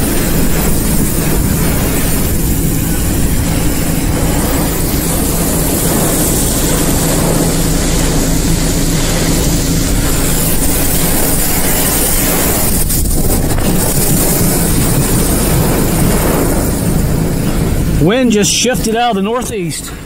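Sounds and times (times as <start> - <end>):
rain hissing on car: 0.0 - 18.3
wind rushing against car: 0.0 - 18.4.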